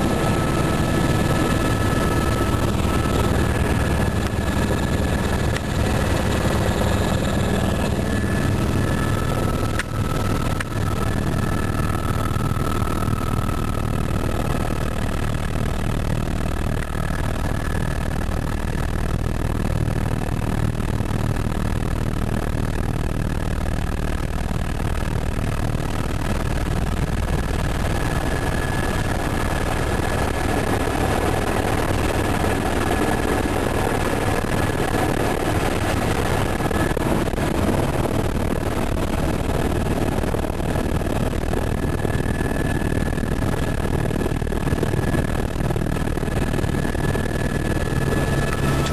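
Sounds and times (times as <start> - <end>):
helicopter engine and rotor: 0.0 - 48.9.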